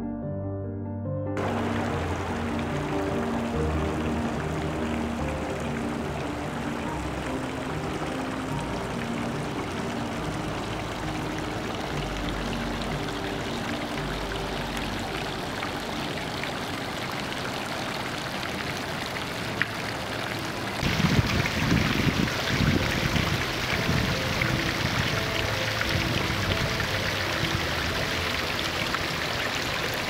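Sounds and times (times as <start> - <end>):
fountain splashing into stone basin: 1.4 - 30.0.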